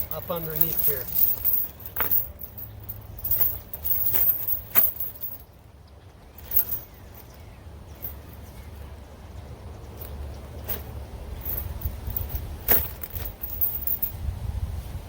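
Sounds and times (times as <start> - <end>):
steel chain clinking: 0.0 - 5.6, 6.3 - 8.6, 9.8 - 14.2.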